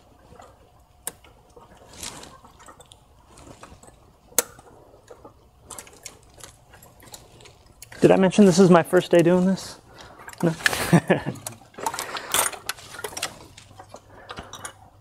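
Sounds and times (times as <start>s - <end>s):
plastic parts rustling: 0.0s - 15.0s.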